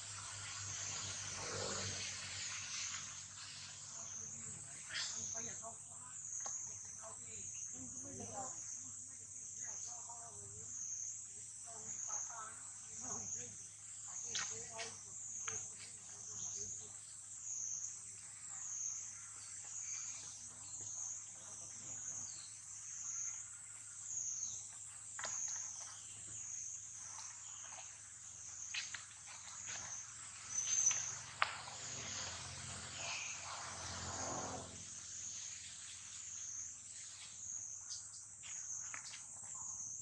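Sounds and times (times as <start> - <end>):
insect chorus shrill drone: 0.0 - 40.0.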